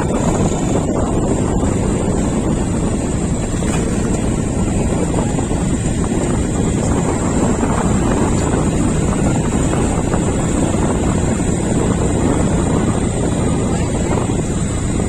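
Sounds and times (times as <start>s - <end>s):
vehicle engine and road noise: 0.0s - 15.0s
wind buffeting microphone: 0.0s - 15.0s.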